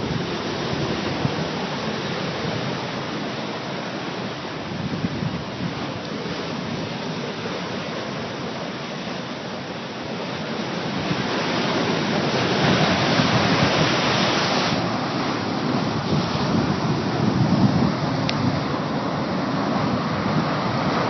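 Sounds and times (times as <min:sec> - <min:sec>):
ocean surf breaking on rocks: 0:00.0 - 0:21.0.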